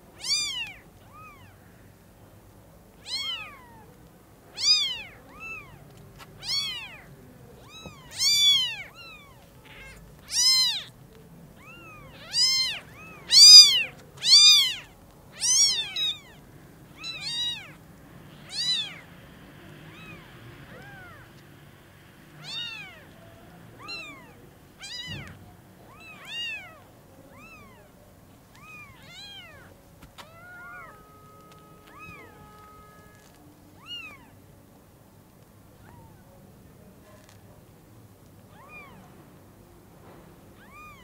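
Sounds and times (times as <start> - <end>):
kittens mewing: 0.2 - 1.9, 2.9 - 19.1, 19.7 - 21.4, 22.4 - 34.4, 35.8 - 36.3, 38.5 - 39.2, 40.6 - 41.0.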